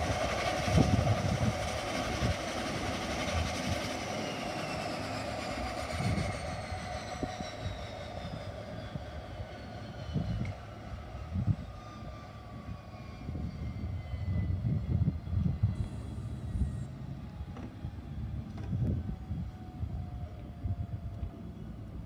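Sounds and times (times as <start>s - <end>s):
turbine engine whine: 0.0s - 22.0s.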